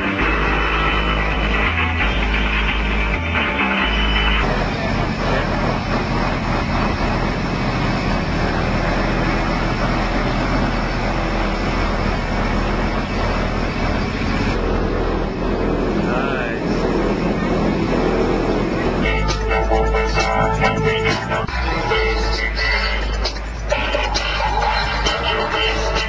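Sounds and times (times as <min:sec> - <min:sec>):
music with stepping bass notes: 0:00.0 - 0:26.0
subwoofer bass rumble: 0:00.0 - 0:26.0.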